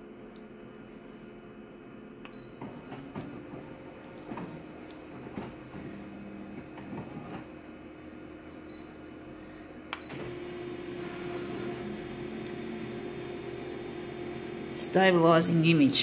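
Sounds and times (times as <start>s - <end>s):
print engine steady hum: 0.0s - 16.0s
photocopier humming: 0.1s - 16.0s.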